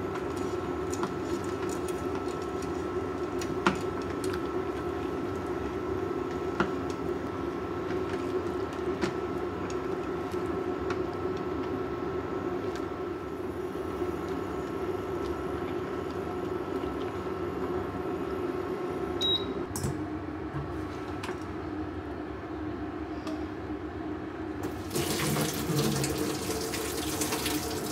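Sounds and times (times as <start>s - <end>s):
cooktop electrical hum: 0.0s - 27.9s.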